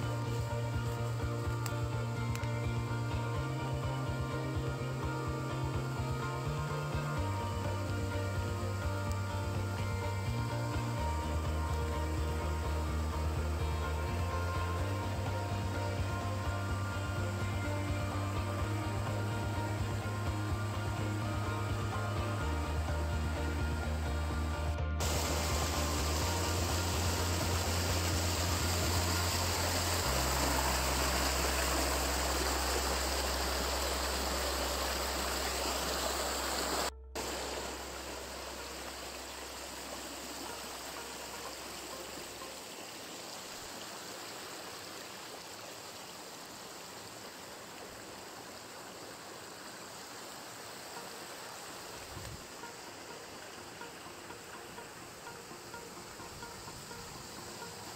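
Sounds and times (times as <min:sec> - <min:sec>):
rushing stream water: 0:00.0 - 0:57.9.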